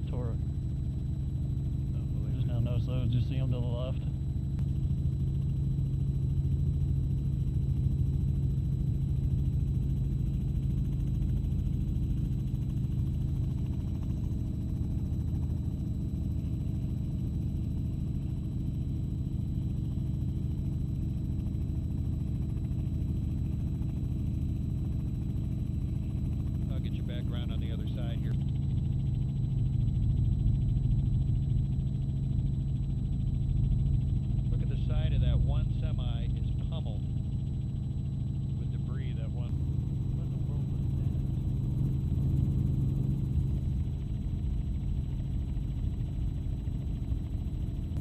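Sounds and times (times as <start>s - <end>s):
aircraft engine drone: 0.0s - 48.0s.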